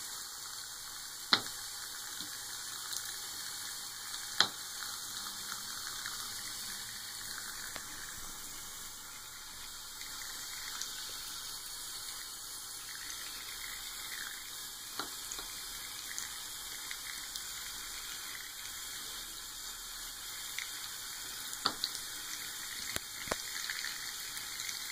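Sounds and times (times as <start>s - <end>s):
tap water running into sink: 1.3s - 3.2s, 4.2s - 24.9s.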